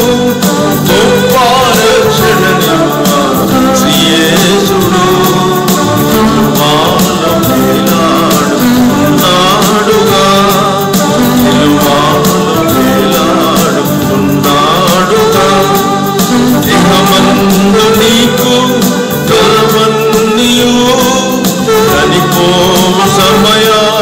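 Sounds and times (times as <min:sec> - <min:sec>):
electronic keyboard chords: 0:00.0 - 0:24.0
man singing a hymn: 0:00.0 - 0:24.0
steady beat: 0:00.0 - 0:24.0.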